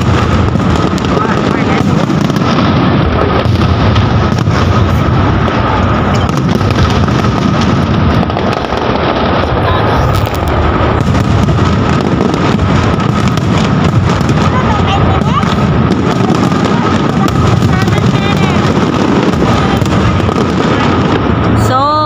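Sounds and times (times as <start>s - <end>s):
fireworks bursting with bangs and crackles: 0.0s - 22.0s.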